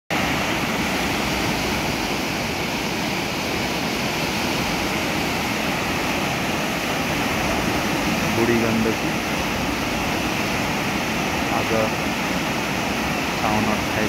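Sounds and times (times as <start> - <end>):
river rushing over rapids: 0.1 - 14.0.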